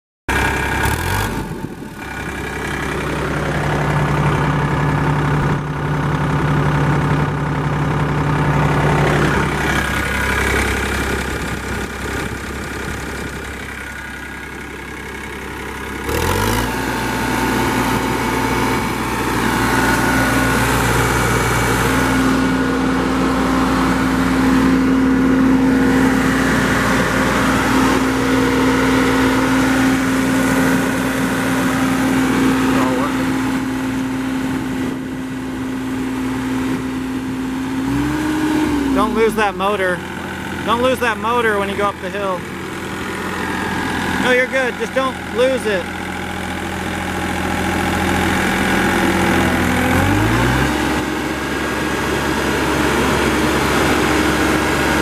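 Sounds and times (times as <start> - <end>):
diesel mower engine running: 0.3 - 55.0.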